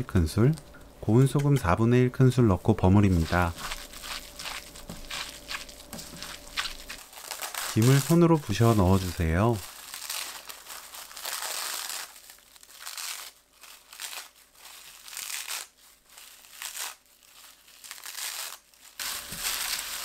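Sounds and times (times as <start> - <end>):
crisp seaweed sheets crackling: 2.6 - 20.0.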